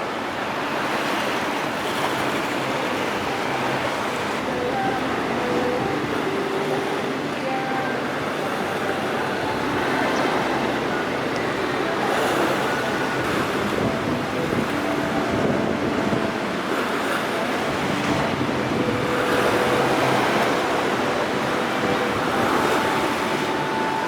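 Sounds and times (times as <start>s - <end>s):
rough sea waves rushing: 0.0s - 24.0s
wind on microphone: 0.0s - 24.0s.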